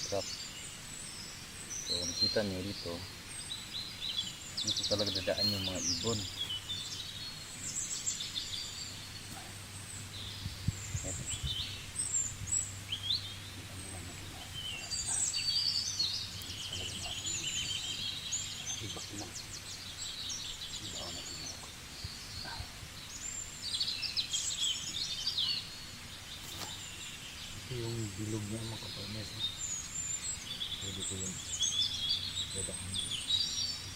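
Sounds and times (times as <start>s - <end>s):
low background hum: 0.0s - 33.9s
small birds chirping: 0.0s - 33.9s.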